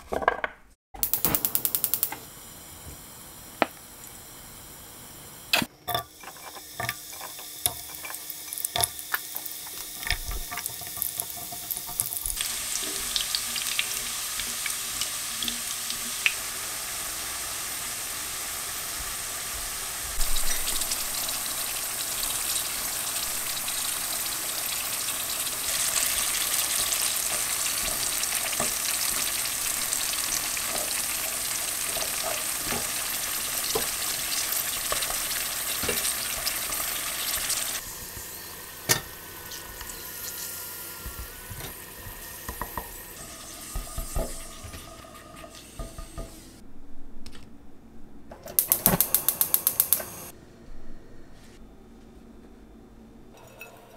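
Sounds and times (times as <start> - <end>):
food frying in oil: 1.0 - 46.6.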